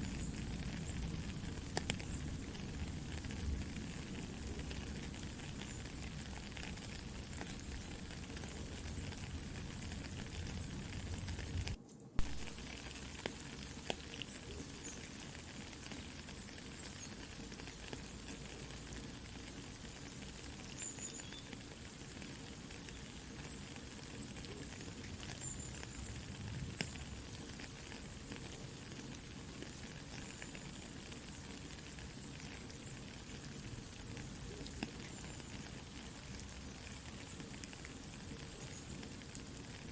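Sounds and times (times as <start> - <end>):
campfire pops and crackles: 0.0 - 39.9
soft rain hiss: 0.0 - 39.9.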